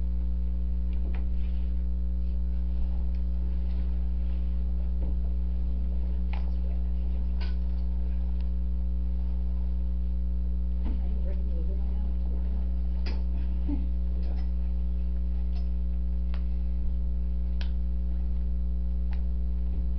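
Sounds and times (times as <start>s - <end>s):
electrical mains hum: 0.0s - 19.9s.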